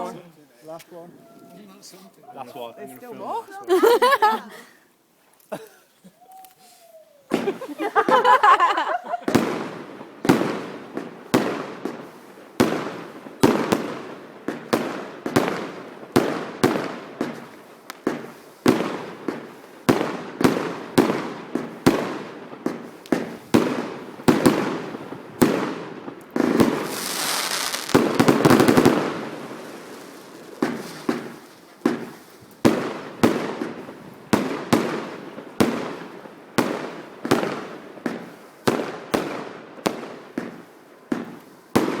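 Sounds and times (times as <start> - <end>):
fireworks hissing crackle: 6.2 - 42.0
fireworks bangs echoing: 7.3 - 42.0.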